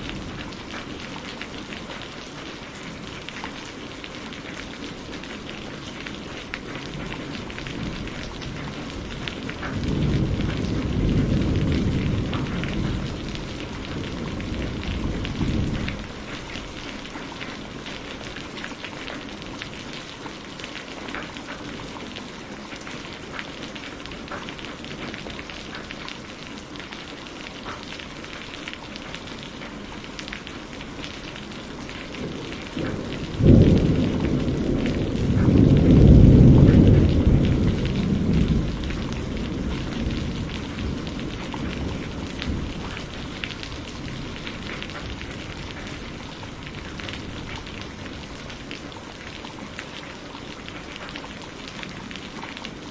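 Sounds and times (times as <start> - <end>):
low rumble of thunder: 0.0 - 27.0, 27.6 - 52.9
raindrops ticking: 0.0 - 52.9
steady rain: 0.0 - 52.9.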